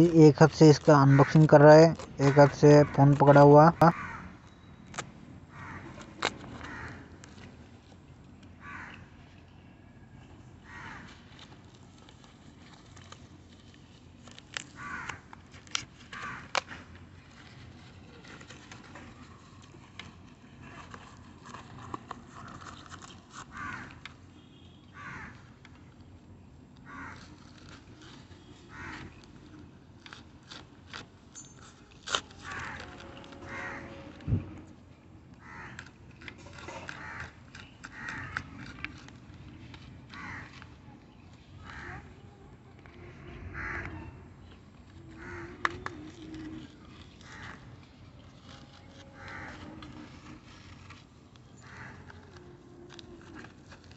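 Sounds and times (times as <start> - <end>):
cardboard and plastic tearing: 0.0 - 8.4, 10.7 - 24.6, 26.9 - 42.2, 44.5 - 53.9.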